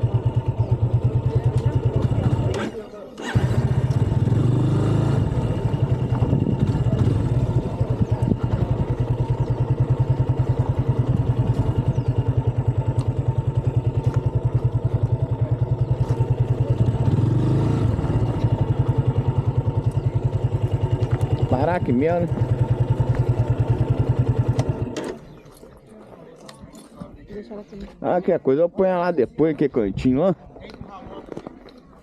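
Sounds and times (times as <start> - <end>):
motorcycle engine at low revs: 0.0 - 25.6.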